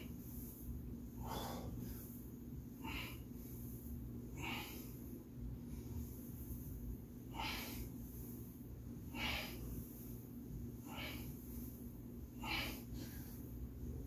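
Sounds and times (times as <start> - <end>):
man breathing forcefully: 0.0 - 14.0
steady low hum: 0.0 - 14.0.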